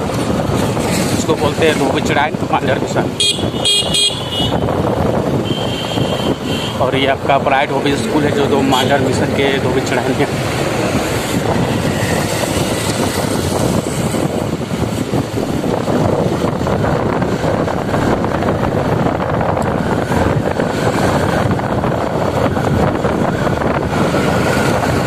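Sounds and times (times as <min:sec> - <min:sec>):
vehicle running on road: 0:00.0 - 0:25.0
wind buffeting microphone: 0:00.0 - 0:25.0.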